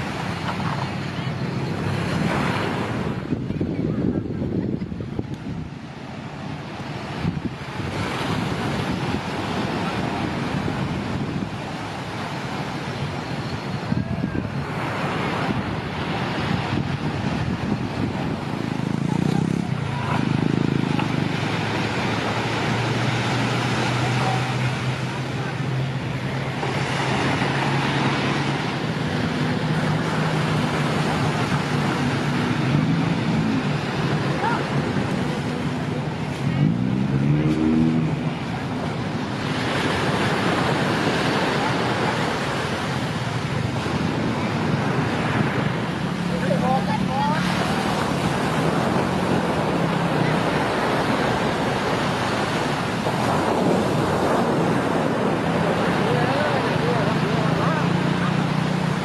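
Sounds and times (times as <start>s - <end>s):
faint voices: 0.0s - 59.0s
surf rushing: 0.0s - 59.0s
wind: 0.0s - 59.0s.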